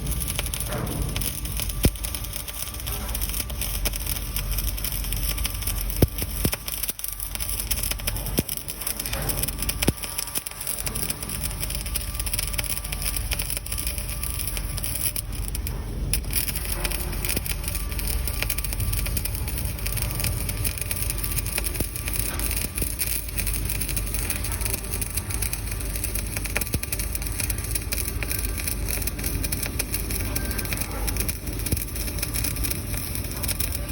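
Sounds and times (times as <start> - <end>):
electric arc welding crackle: 0.0 - 33.9.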